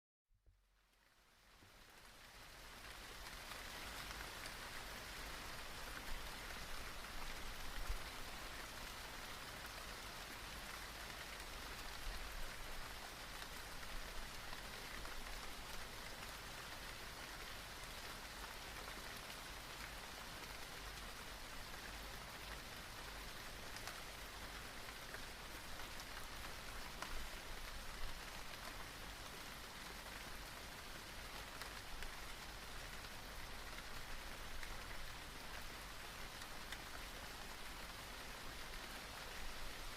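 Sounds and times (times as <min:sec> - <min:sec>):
steady rain falling: 0:00.6 - 0:39.9.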